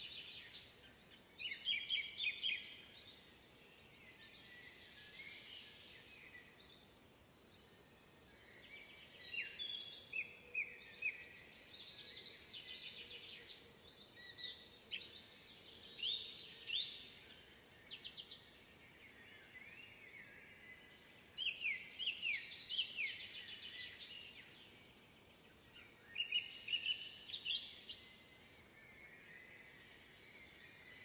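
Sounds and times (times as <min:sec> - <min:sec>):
faint steady hiss: 0:00.0 - 0:31.0
songbirds chirping and trilling: 0:00.0 - 0:31.0.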